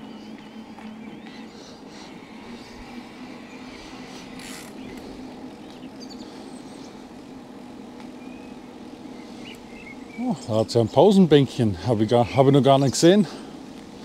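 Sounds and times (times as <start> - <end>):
electric bike motor hum: 0.0 - 14.0
rolling and wind noise: 0.0 - 14.0.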